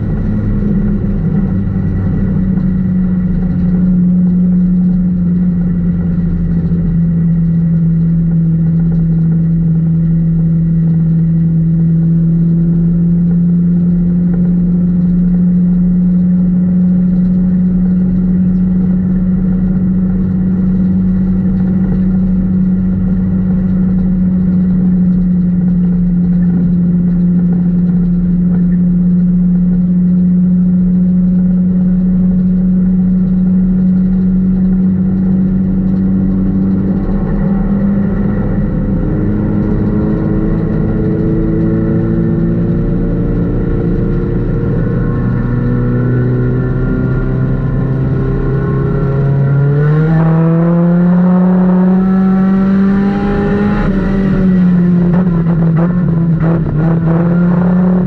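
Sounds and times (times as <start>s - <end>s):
race car engine running loud: 0.0s - 58.0s.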